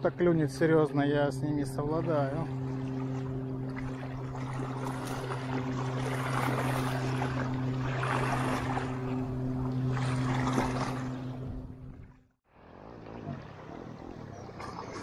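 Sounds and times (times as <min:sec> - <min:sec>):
low motor-like hum: 0:00.0 - 0:15.0
small sea waves sloshing: 0:01.9 - 0:15.0.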